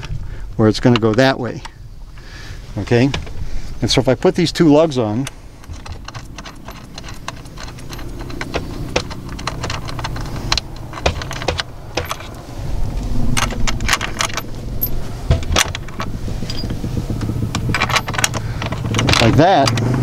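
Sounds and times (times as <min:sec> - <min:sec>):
low rumble: 0:01.8 - 0:19.9
metal lugs clinking: 0:02.8 - 0:20.0.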